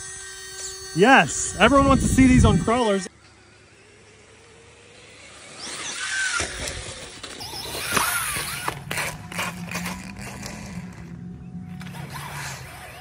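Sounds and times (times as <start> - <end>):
electric motor whine: 0.0 - 13.0
steady low hum: 0.0 - 13.0.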